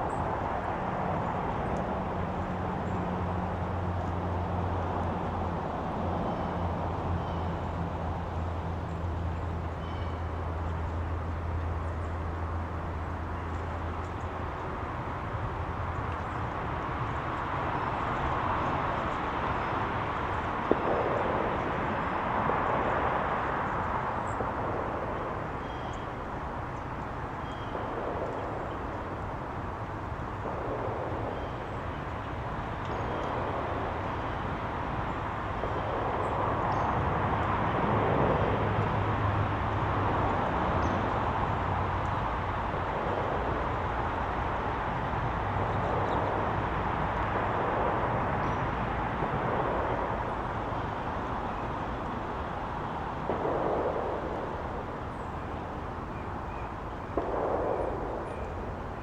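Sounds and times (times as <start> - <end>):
low engine hum: 0.0 - 59.0
passing traffic rushing: 0.0 - 59.0.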